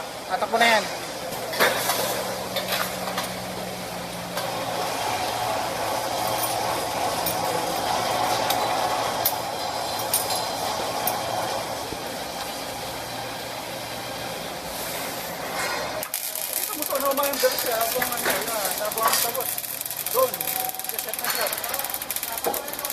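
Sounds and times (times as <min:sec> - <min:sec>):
welding arc crackling: 0:00.0 - 0:22.9.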